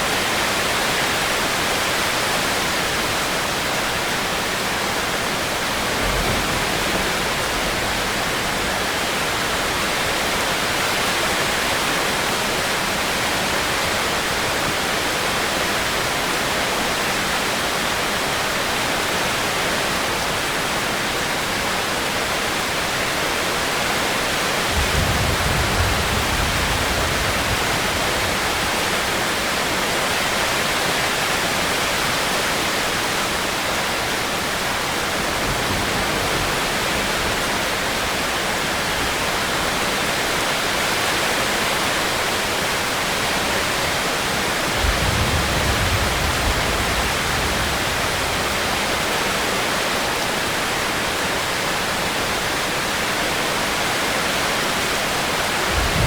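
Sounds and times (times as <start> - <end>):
steady rain hissing: 0.0 - 56.0.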